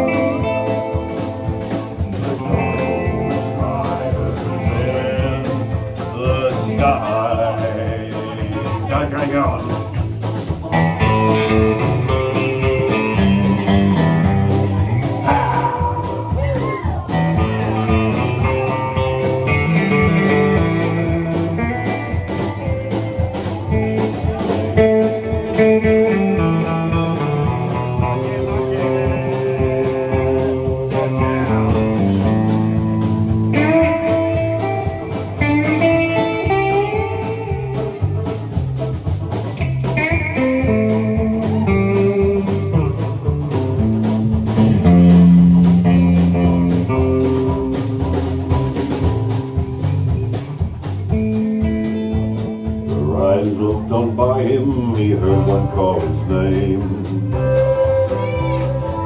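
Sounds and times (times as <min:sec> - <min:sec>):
bass guitar: 0:00.0 - 0:59.0
electric guitar lead: 0:00.0 - 0:59.0
steady beat: 0:00.0 - 0:59.0.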